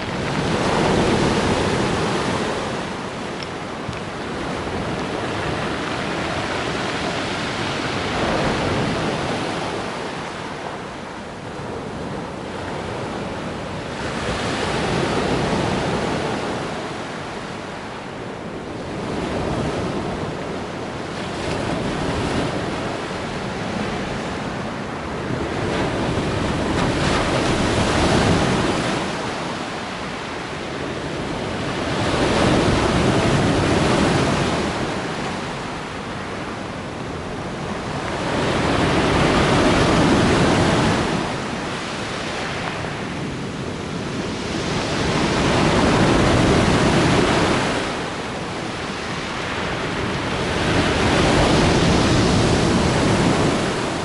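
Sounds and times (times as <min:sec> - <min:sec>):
sea waves breaking on shore: 0:00.0 - 0:54.0
wind buffeting microphone: 0:00.0 - 0:54.0.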